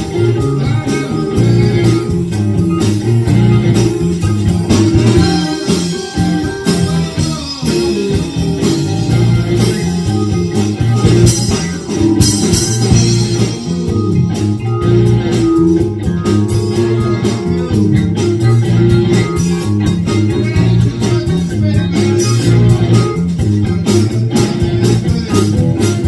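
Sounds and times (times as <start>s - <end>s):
drum kit: 0.0s - 26.0s
electric bass: 0.0s - 26.0s
electric guitar playing lead: 0.0s - 26.0s.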